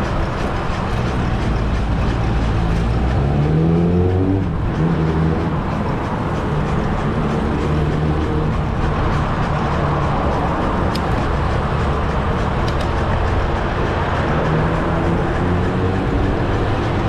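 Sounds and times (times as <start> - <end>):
road noise: 0.0 - 17.0
vehicle engines humming: 0.0 - 17.0.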